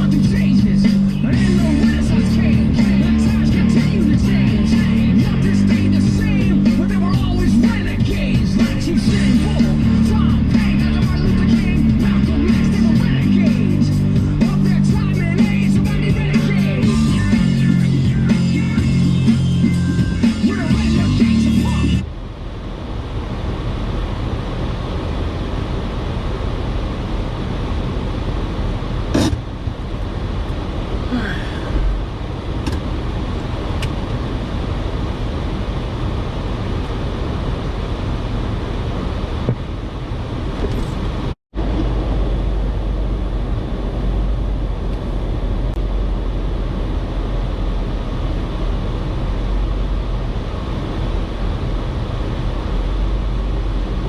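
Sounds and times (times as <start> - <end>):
off-road vehicle engine rumble: 0.0 - 54.0.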